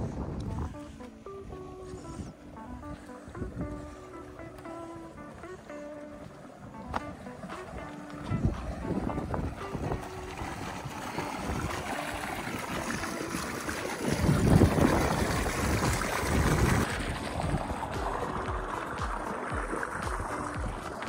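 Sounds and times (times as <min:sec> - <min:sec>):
wind buffeting microphone: 0:00.0 - 0:05.7, 0:06.6 - 0:21.0.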